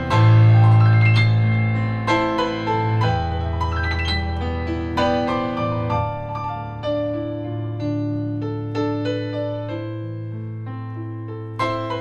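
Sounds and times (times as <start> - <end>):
electric keyboard piano chords: 0.0 - 12.0.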